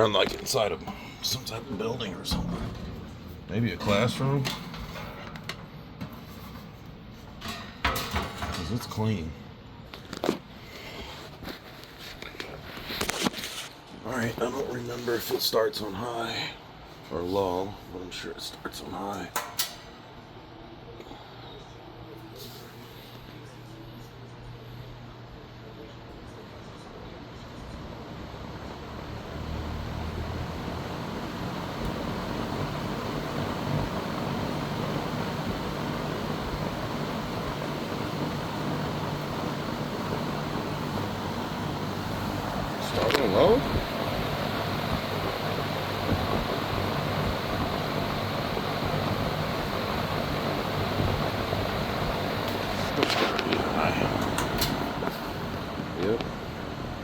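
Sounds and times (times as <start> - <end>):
box fan blowing air: 0.0 - 57.0
fan motor hum: 0.0 - 57.0.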